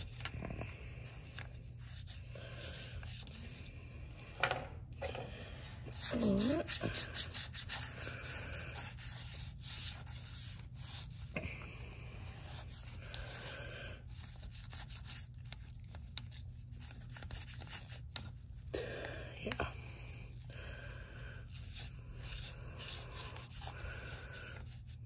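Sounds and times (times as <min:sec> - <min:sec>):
toothbrush scrubbing: 0:00.0 - 0:04.1, 0:05.0 - 0:18.8, 0:19.4 - 0:25.0.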